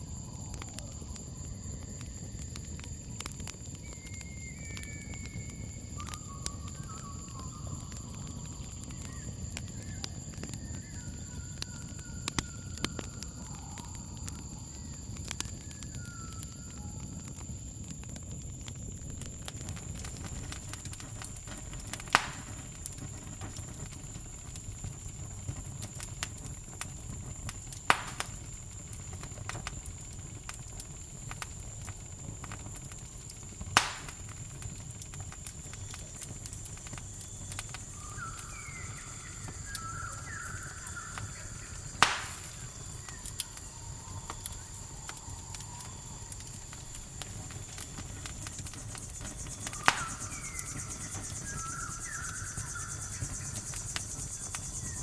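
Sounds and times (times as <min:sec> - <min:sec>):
campfire crackling and popping: 0:00.0 - 0:55.0
crickets chirring: 0:00.0 - 0:55.0.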